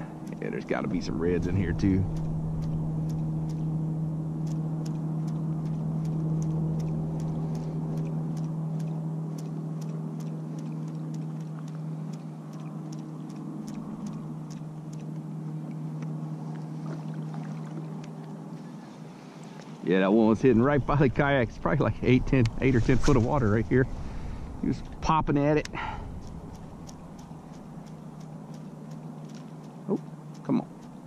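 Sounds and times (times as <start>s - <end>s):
motor droning: 0.0s - 31.0s.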